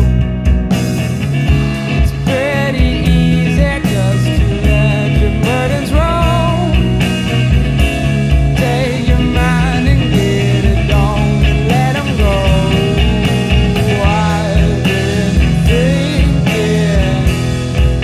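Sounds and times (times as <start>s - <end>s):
bass guitar: 0.0s - 18.0s
drum beat: 0.0s - 18.0s
lead electric guitar: 0.0s - 18.0s.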